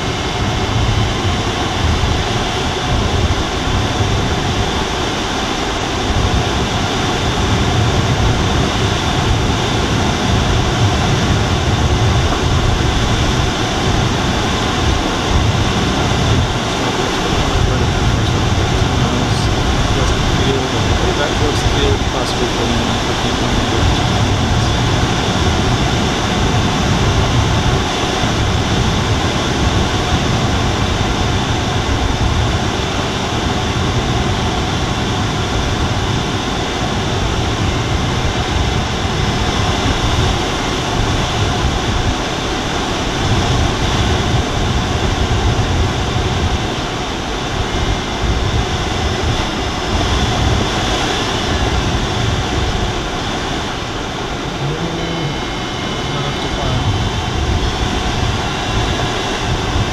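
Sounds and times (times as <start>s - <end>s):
airflow rushing in cockpit: 0.0s - 59.9s
low wind rumble: 0.0s - 59.9s.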